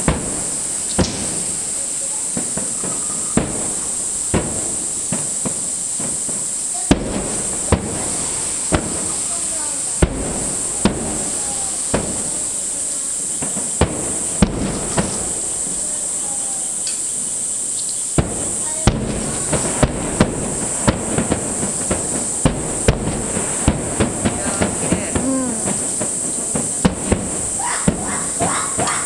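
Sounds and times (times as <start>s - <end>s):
fireworks shells bursting: 0.0s - 29.0s
steady high hiss: 0.0s - 29.0s.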